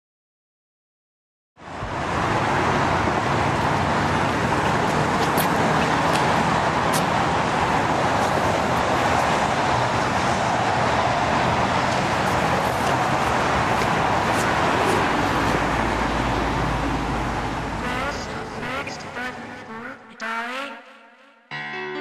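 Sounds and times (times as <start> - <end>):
road traffic rushing: 1.6 - 20.9.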